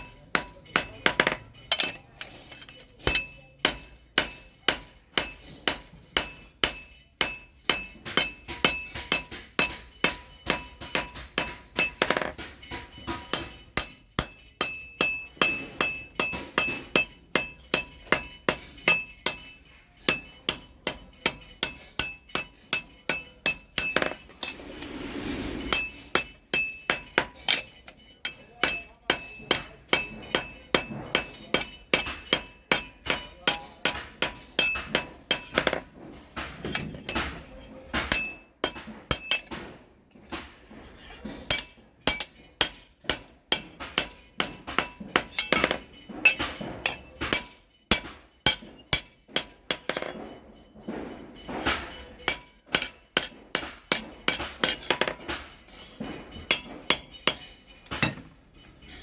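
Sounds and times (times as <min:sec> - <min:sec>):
hammer ringing on steel anvil: 0:00.0 - 0:24.5, 0:25.7 - 0:35.8, 0:41.0 - 0:50.2, 0:51.5 - 0:58.3.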